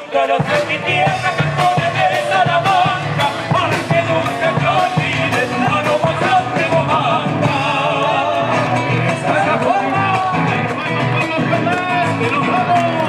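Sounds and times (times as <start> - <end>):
band playing a song: 0.0 - 13.0
person singing: 0.0 - 13.0.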